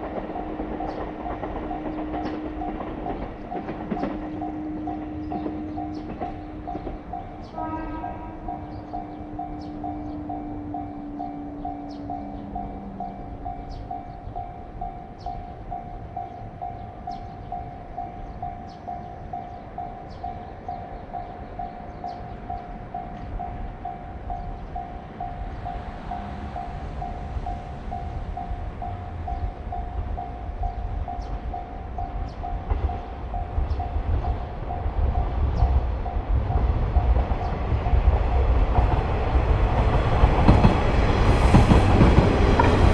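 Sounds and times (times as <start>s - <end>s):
level crossing warning bell: 0.0s - 42.9s
train rumble: 0.0s - 42.9s.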